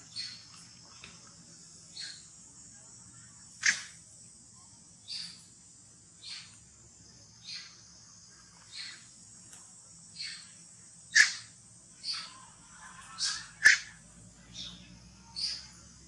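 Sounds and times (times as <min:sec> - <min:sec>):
high buzzing of insects: 0:00.0 - 0:16.0.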